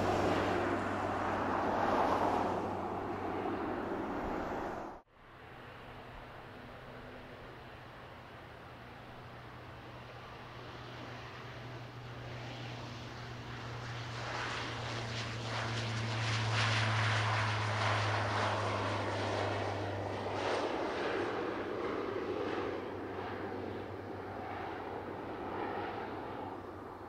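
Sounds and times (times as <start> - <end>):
airplane engines passing: 0.0 - 27.0.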